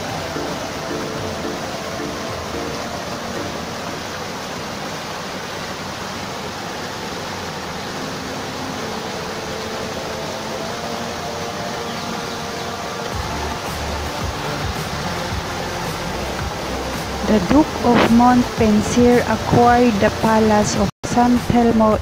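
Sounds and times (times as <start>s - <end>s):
small waterfall splashing: 0.0s - 22.0s.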